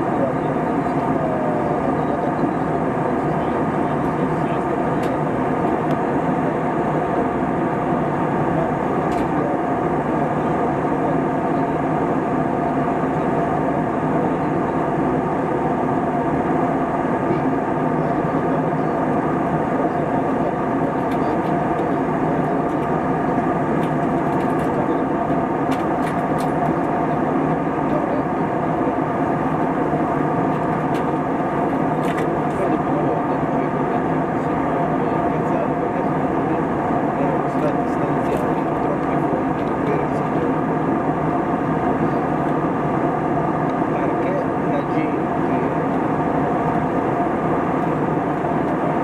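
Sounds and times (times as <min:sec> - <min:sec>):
airplane cabin engine drone: 0:00.0 - 0:49.0.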